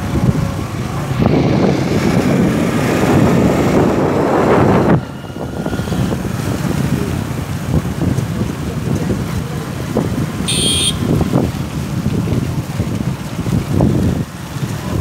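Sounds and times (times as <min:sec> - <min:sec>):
steady outdoor noise: 0:00.0 - 0:15.0
vehicle road noise: 0:00.0 - 0:15.0
wind rushing over microphone: 0:00.0 - 0:15.0.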